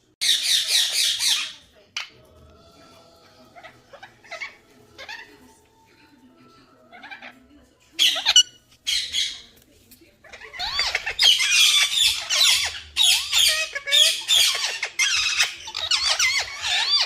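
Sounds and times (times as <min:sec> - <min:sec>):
parrots squawking and screeching: 0:00.2 - 0:05.9, 0:06.6 - 0:09.6, 0:10.2 - 0:17.0.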